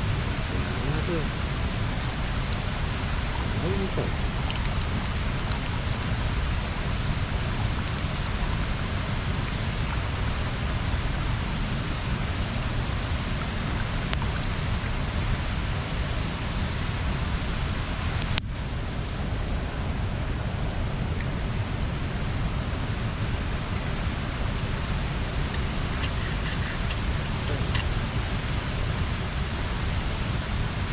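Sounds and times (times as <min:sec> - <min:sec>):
bonfire hissing: 0:00.0 - 0:30.9
small fire crackles: 0:00.0 - 0:30.9.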